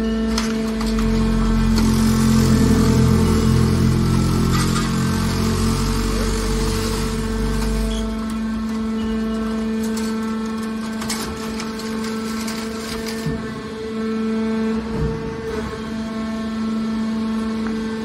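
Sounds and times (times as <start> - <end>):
hydraulic baler humming: 0.0 - 18.0.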